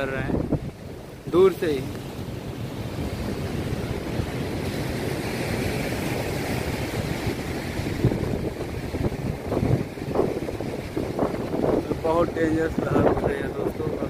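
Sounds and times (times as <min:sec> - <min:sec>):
heavy surf breaking: 0:00.0 - 0:14.0
wind blowing across microphone: 0:00.0 - 0:14.0.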